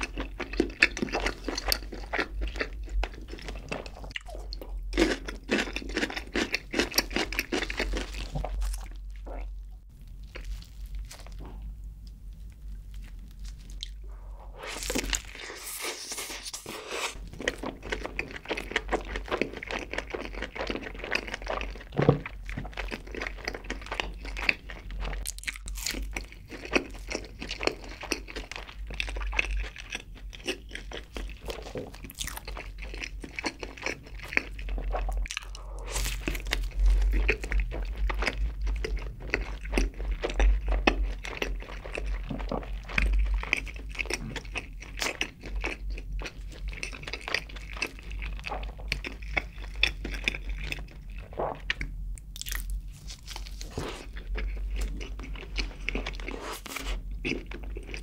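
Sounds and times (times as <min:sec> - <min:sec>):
person biting and chewing food: 0:00.0 - 0:58.0.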